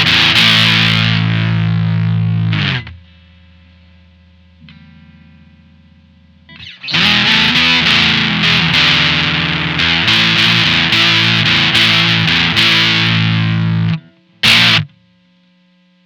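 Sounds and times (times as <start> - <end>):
quiet held guitar notes: 0.0 - 3.0, 4.6 - 15.0
fuzzy electric guitar chords: 0.0 - 3.6, 4.6 - 15.0.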